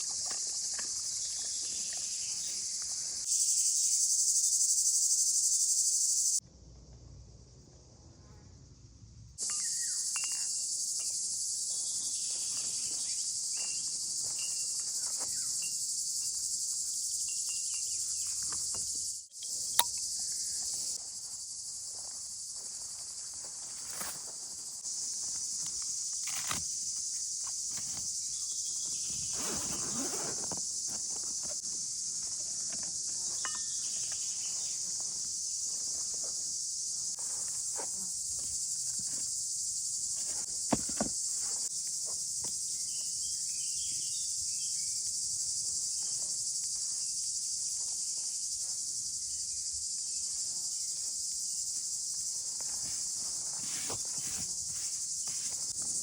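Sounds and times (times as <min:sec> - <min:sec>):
insects chorus: 0:00.0 - 0:06.5, 0:07.2 - 0:56.0.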